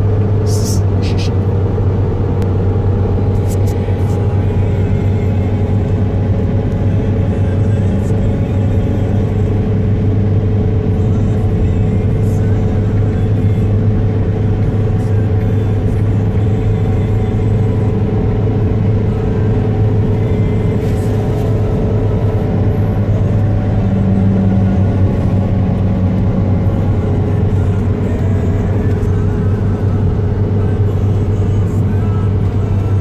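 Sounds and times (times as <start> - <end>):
car interior engine and road noise: 0.0 - 33.0.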